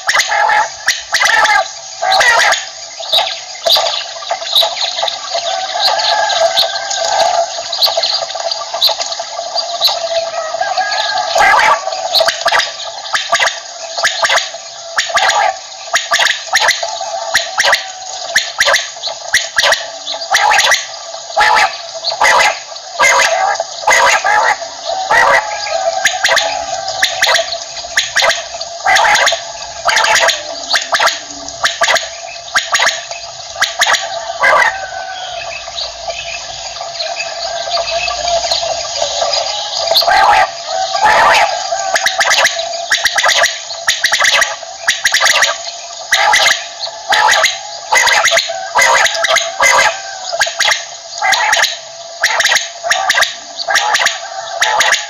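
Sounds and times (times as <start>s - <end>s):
quail calling: 0.0s - 55.0s
sustained background tones: 0.7s - 54.8s.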